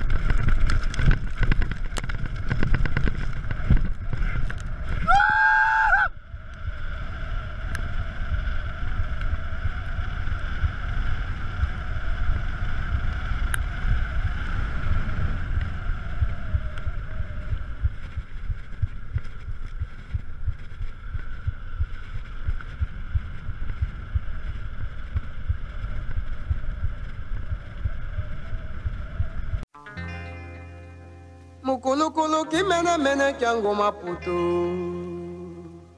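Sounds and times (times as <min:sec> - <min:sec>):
bike tyres rumbling: 0:00.0 - 0:29.6
wind buffeting microphone: 0:00.0 - 0:29.6.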